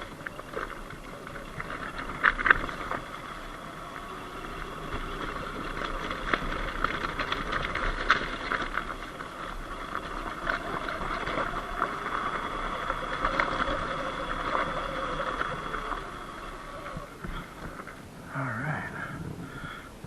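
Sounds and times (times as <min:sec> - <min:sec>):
electric motor whine: 0:00.0 - 0:18.1
tyres crunching over gravel: 0:00.0 - 0:18.1.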